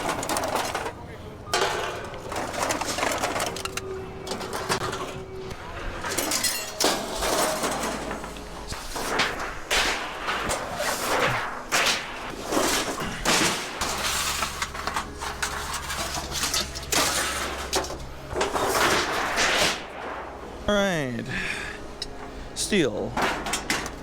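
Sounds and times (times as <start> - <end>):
scrap metal clanking and rattling: 0.0 - 20.7, 21.3 - 24.0
low steady hum: 0.0 - 24.0.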